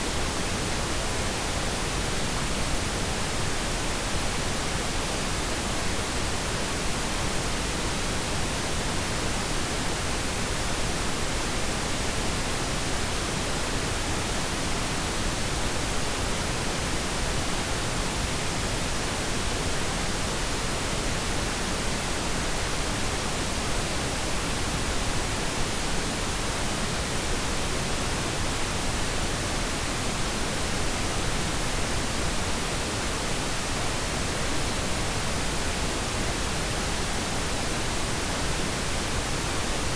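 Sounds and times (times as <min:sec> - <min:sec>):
steady pink noise: 0:00.0 - 0:39.9.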